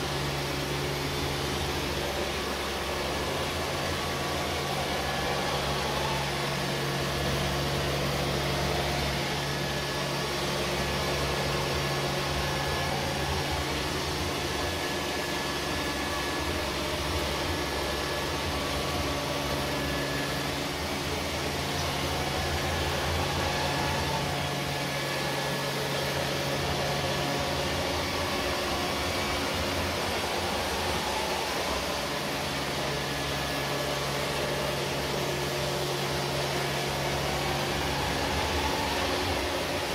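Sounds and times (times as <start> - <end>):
low hum: 0.0 - 39.9
robot vacuums whirring: 0.0 - 39.9.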